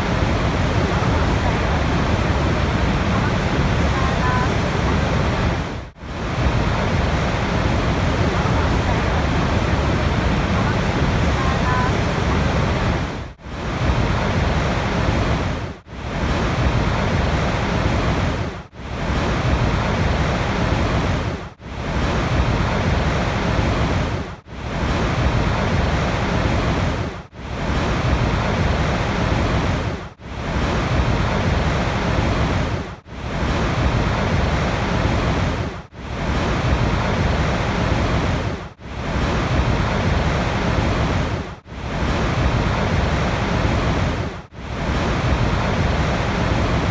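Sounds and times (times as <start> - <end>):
rushing water: 0.0 - 46.9.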